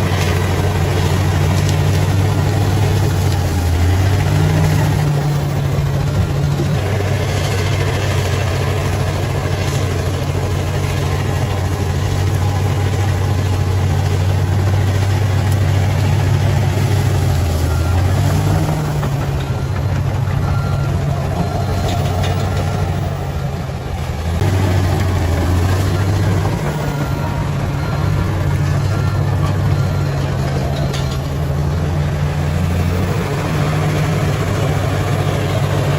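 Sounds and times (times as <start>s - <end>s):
bulldozer diesel engine droning: 0.0s - 35.9s.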